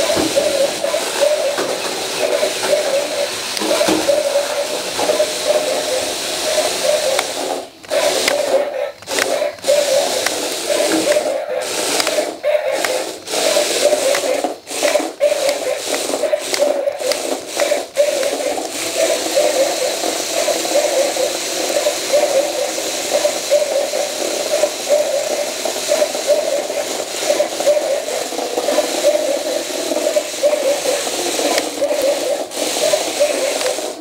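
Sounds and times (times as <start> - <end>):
toy robot motors whirring: 0.0 - 34.0.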